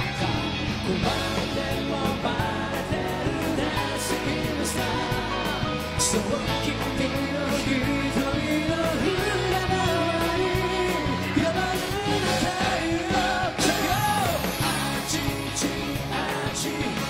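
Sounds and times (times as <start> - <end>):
pop-rock song with male vocals: 0.0 - 17.0.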